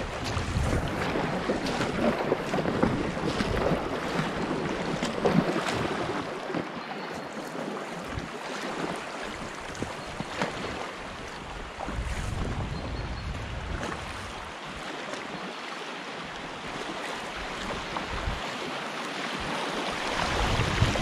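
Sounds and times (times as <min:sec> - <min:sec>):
water splashing against raft: 0:00.0 - 0:21.0.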